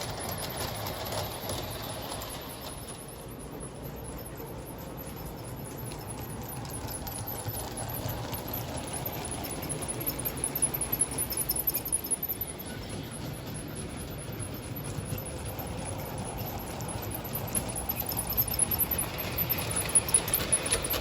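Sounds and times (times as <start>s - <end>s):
model train motor hum: 0.0s - 21.0s.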